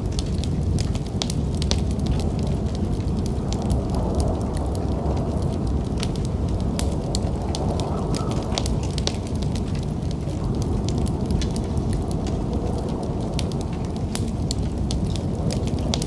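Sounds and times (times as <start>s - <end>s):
steady low rumble: 0.0s - 16.0s
wood fire crackling and popping: 0.0s - 16.0s.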